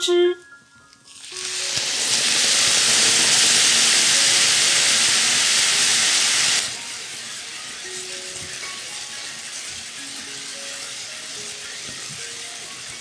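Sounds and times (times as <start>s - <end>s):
water hissing in hot pan: 1.1s - 13.0s.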